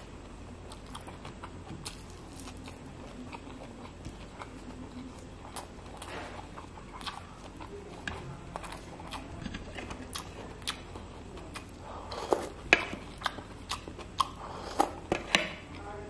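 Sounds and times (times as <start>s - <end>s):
person chewing food: 0.0s - 15.8s.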